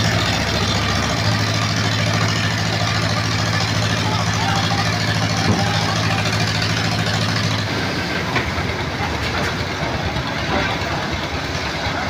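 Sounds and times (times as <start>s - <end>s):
concrete mixer engine rattling: 0.0s - 12.0s.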